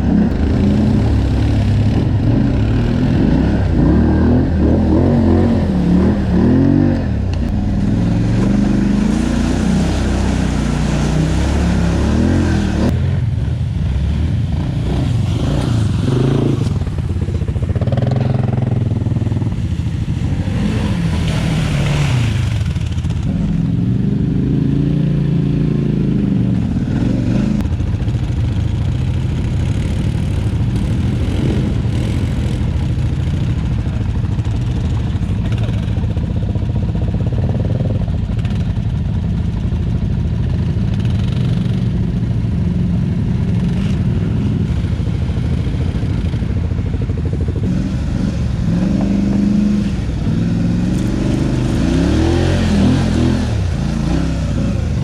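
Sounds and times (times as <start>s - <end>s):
atv engine revving: 0.0s - 39.8s, 40.4s - 55.0s.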